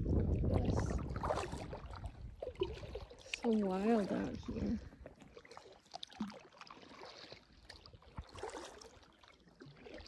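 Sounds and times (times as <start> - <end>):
paddle splashes: 0.0 - 10.0
water dripping and trickling: 0.0 - 10.0.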